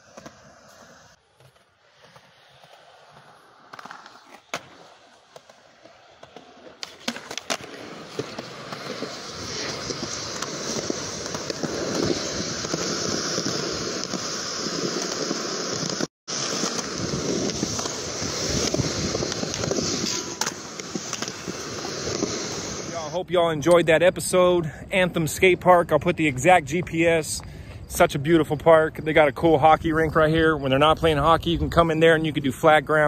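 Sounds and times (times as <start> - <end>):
skateboard wheels rolling on concrete: 0.0 - 33.0.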